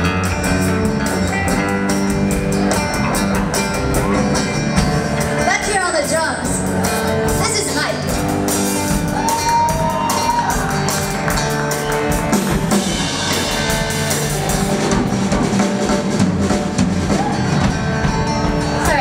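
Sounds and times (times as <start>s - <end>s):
drum kit: 0.0s - 19.0s
electric bass: 0.0s - 19.0s
electric guitar: 0.0s - 19.0s.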